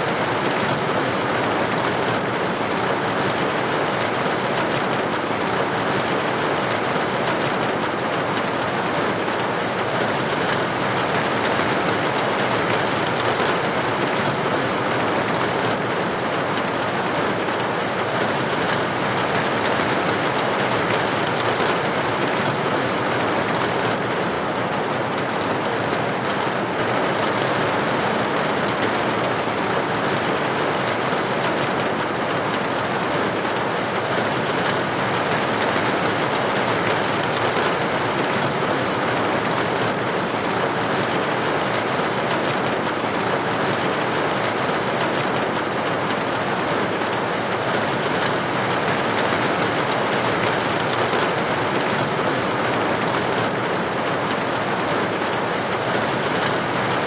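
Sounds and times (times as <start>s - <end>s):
rain pattering on window glass: 0.1s - 57.0s.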